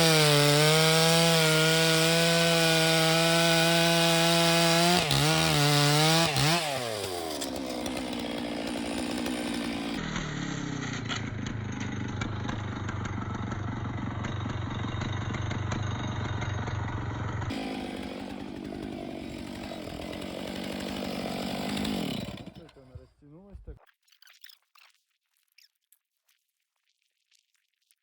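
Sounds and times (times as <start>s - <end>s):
chainsaw revving and idling: 0.0s - 23.5s.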